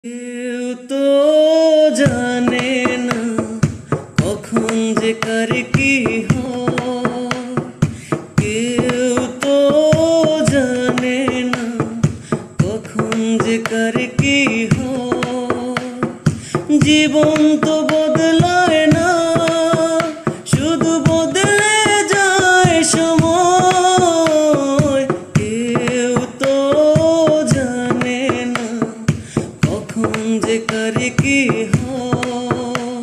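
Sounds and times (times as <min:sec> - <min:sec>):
steady drum beat: 0:02.0 - 0:33.0.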